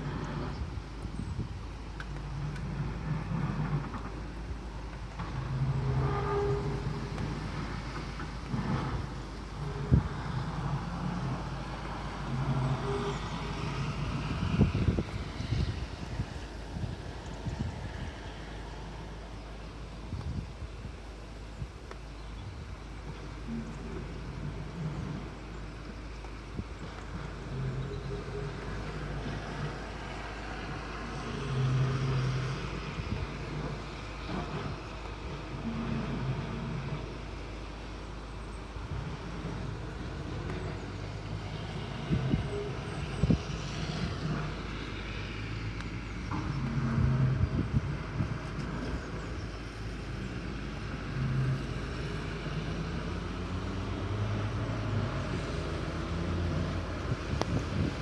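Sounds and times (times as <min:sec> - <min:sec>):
distant traffic rumble: 0:00.0 - 0:58.0
low droning hum: 0:00.0 - 0:58.0.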